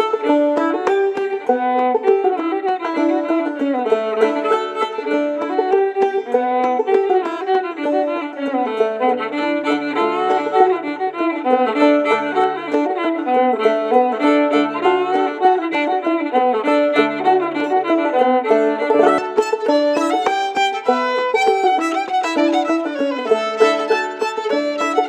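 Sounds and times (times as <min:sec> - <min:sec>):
banjo: 0:00.0 - 0:25.0
fiddle melody: 0:00.0 - 0:25.0.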